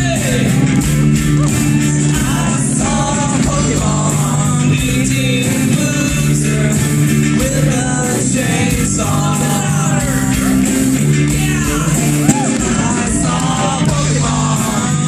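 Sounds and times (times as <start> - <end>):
guitar: 0.0 - 15.0
live rock band playing: 0.0 - 15.0
person singing: 0.0 - 15.0.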